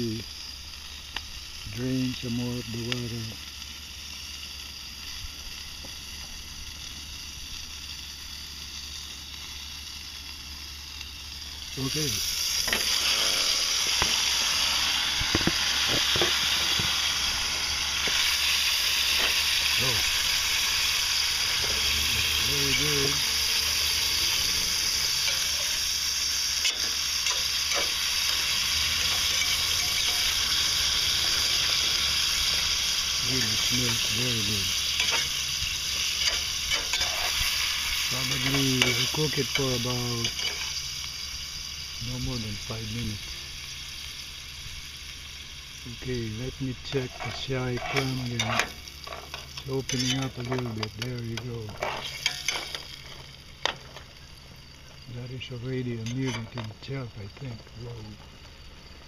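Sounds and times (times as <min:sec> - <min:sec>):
clam sizzling: 0:00.0 - 0:59.0.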